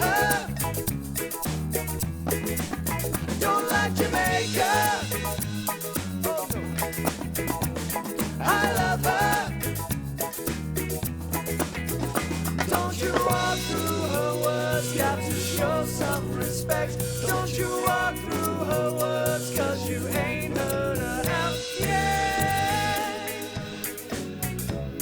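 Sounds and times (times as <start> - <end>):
bass line: 0.0 - 25.0
drums: 0.0 - 25.0.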